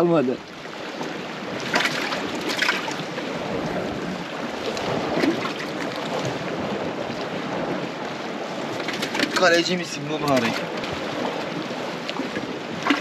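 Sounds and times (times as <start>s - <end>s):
sea washing against rocks: 0.0s - 13.0s
wind on microphone: 0.0s - 13.0s.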